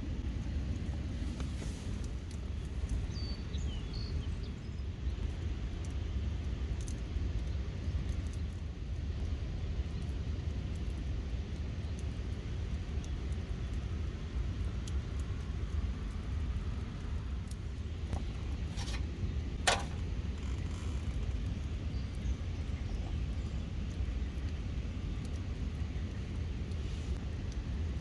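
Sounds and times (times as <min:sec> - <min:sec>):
faint crackles: 0:00.0 - 0:28.0
low outdoor rumble: 0:00.0 - 0:28.0.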